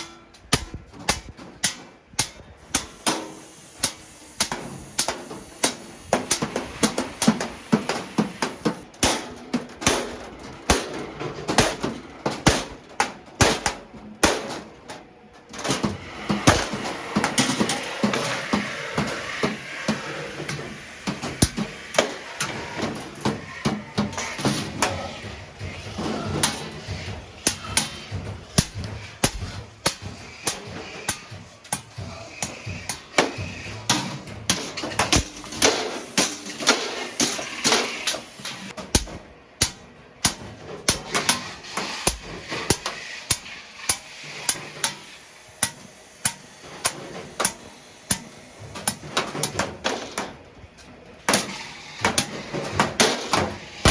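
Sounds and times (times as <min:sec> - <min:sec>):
hammers striking iron plate: 0:00.0 - 0:53.9.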